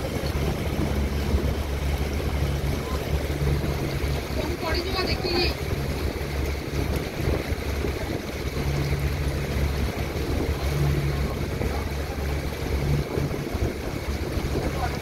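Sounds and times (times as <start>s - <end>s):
motorboat engine humming: 0.0s - 15.0s
water rushing along hull: 0.0s - 15.0s.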